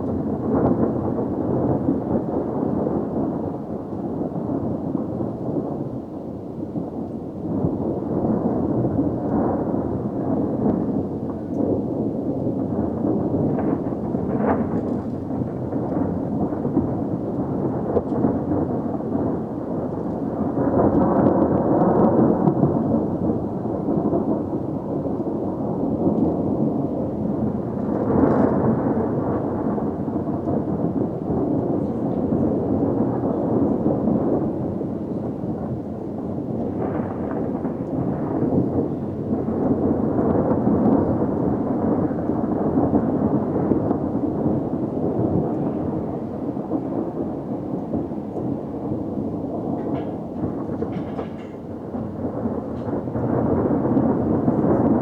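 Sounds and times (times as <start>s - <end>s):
sharp thunder crack: 0.0s - 55.0s
thunder rumbling: 0.0s - 55.0s.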